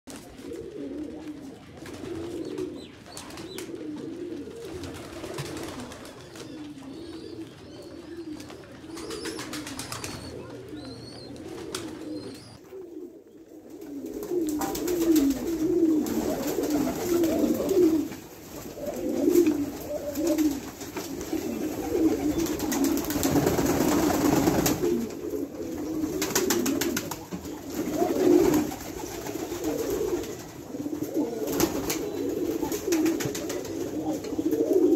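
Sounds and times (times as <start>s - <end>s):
pigeons cooing: 0.2s - 34.9s.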